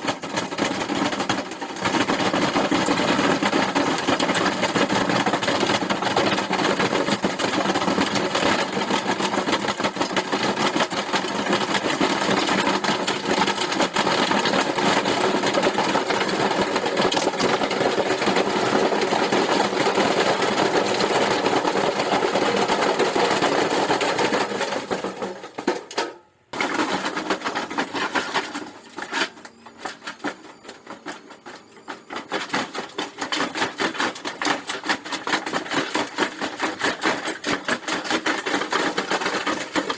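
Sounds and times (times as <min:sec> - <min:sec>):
washing machine clattering and knocking: 0:00.0 - 0:39.9.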